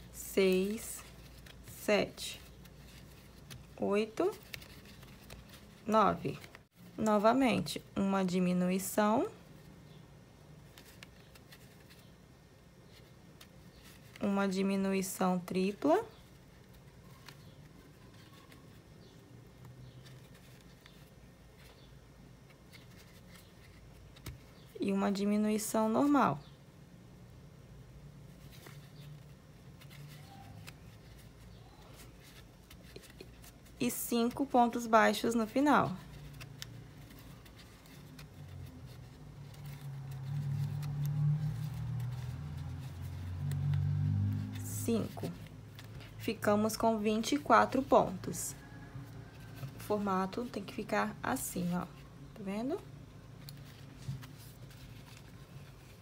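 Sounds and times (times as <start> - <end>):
string rustling: 0.0 - 10.0, 10.6 - 12.2, 12.8 - 24.8, 28.2 - 56.0
low room hum: 0.0 - 56.0.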